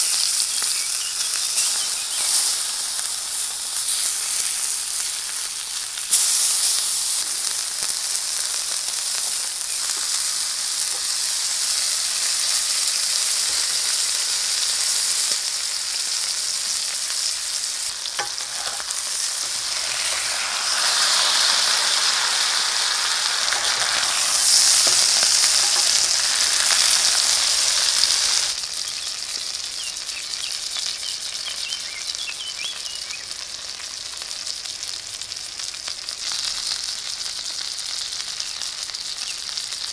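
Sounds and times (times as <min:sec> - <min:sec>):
steak sizzling in a skillet: 0:00.0 - 0:39.9.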